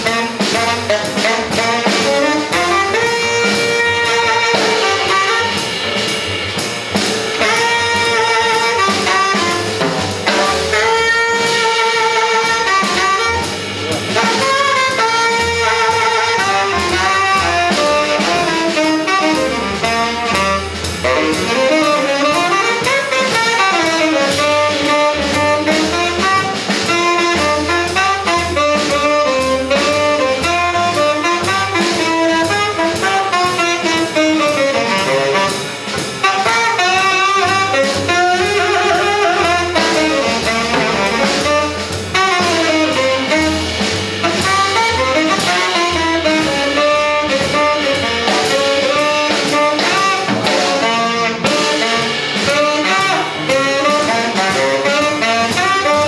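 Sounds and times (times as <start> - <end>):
double bass: 0.0 - 56.0
drum kit: 0.0 - 56.0
saxophone melody: 0.0 - 56.0.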